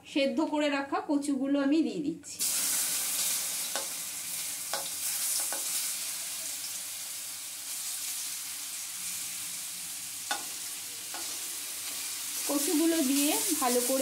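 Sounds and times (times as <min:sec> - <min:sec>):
taro sizzling in hot oil: 0:02.4 - 0:14.0.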